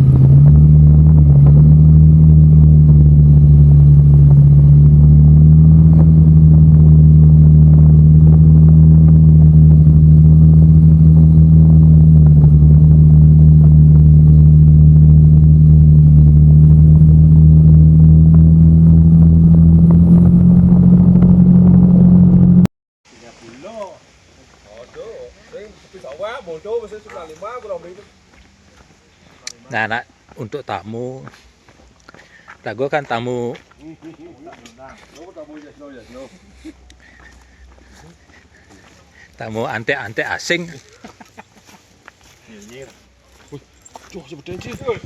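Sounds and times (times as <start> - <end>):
vehicle engine humming: 0.0 - 22.7, 24.4 - 45.0.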